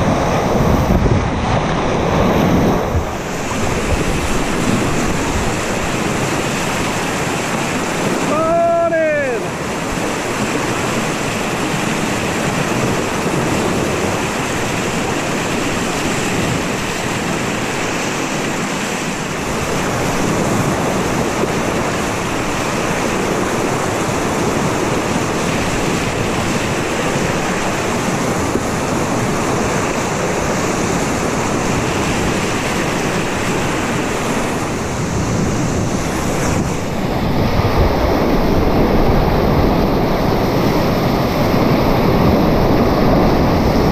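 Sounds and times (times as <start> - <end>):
river water rushing and splashing: 0.0 - 43.9
wind on microphone: 0.0 - 43.9.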